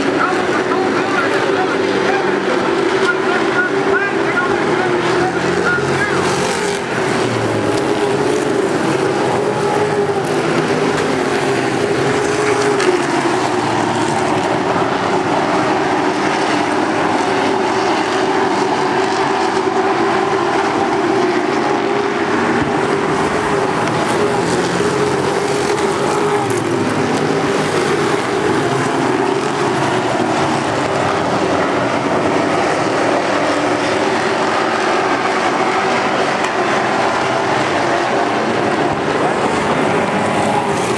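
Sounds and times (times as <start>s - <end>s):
race truck engines droning: 0.0s - 40.9s.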